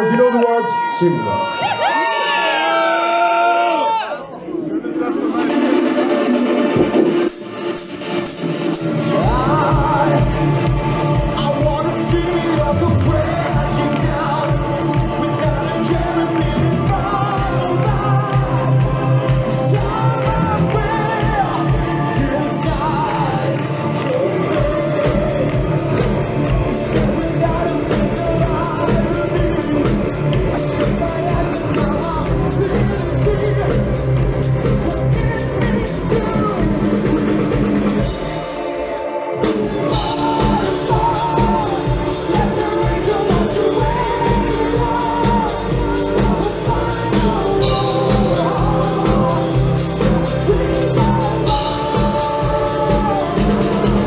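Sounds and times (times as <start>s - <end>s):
drums: 0.0s - 54.0s
singer's voice: 0.0s - 54.0s
bass guitar: 6.4s - 38.4s, 39.4s - 54.0s
electric guitars: 6.5s - 54.0s.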